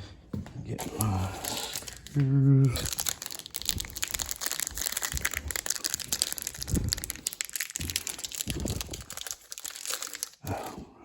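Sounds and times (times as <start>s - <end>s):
packaging crinkling: 0.8s - 10.7s.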